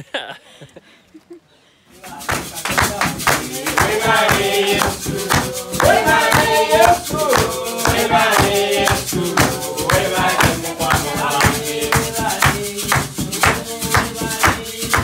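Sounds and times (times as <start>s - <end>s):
hand clapping: 2.0s - 15.0s
wooden hand drum: 2.0s - 15.0s
women singing: 3.0s - 15.0s.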